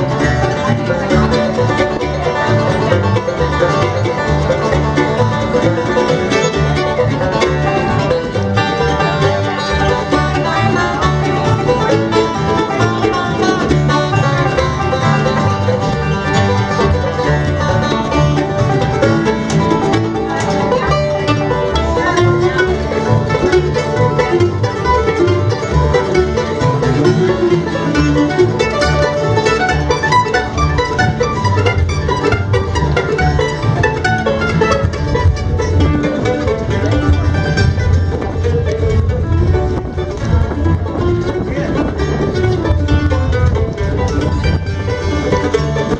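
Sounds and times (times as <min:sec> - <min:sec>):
acoustic guitar picking: 0:00.0 - 0:45.9
bluegrass band playing: 0:00.0 - 0:45.9
mandolin picking: 0:00.0 - 0:45.9.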